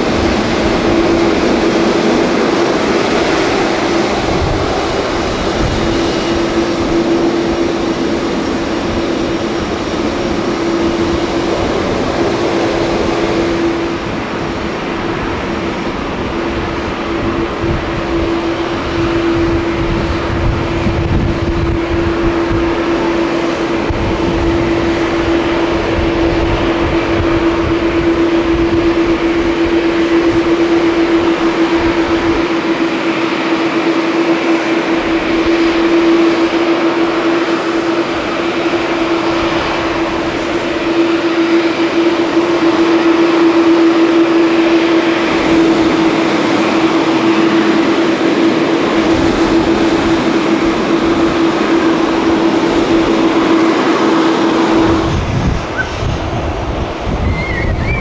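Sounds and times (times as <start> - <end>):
jet engines humming and whining: 0.0 - 58.0.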